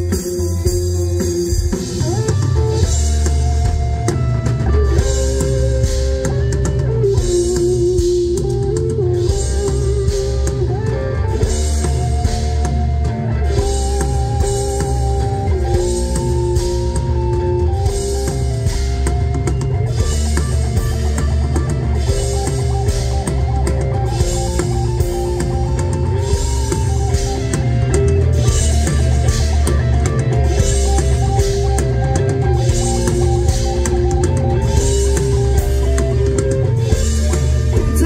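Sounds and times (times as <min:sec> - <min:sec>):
bass guitar: 0:00.0 - 0:38.0
drum kit: 0:00.0 - 0:38.0
electric guitar lead melody: 0:00.0 - 0:38.0.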